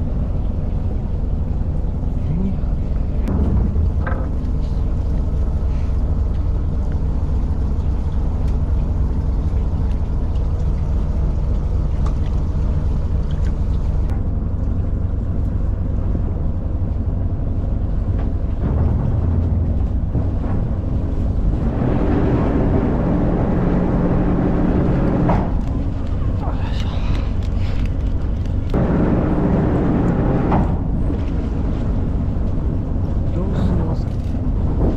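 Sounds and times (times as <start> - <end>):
boat engine droning: 0.0 - 34.9
higher engine layer: 0.0 - 34.9.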